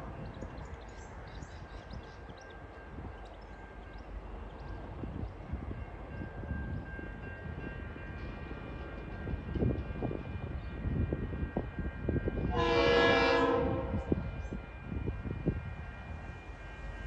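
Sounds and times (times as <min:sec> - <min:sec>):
distant locomotive rumble: 0:00.0 - 0:17.0.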